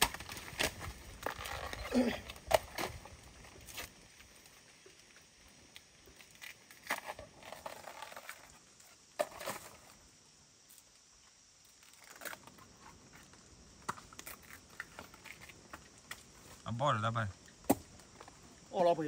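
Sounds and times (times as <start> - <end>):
leaves and twigs rustling: 0.0 - 19.0.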